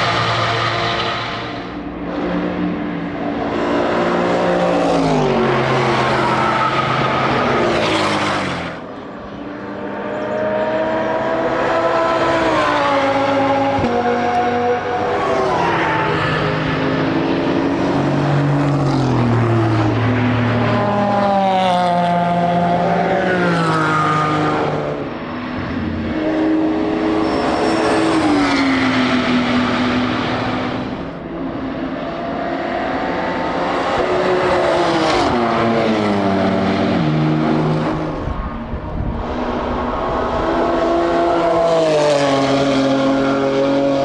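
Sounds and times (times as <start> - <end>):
racing cars passing at speed: 0.0 - 44.0.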